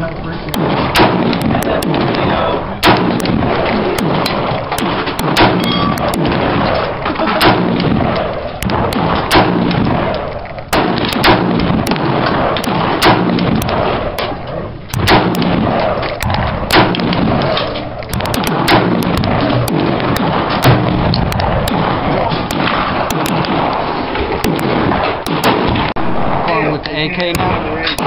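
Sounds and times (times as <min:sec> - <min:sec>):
loud continuous background din: 0:00.0 - 0:28.0
rifle gunshots: 0:00.5 - 0:26.7, 0:27.3 - 0:28.0.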